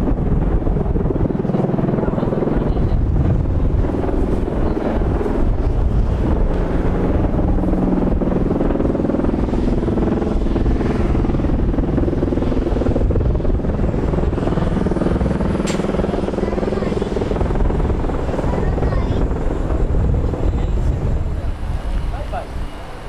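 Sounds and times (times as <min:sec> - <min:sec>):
tiltrotor aircraft droning: 0:00.0 - 0:23.0.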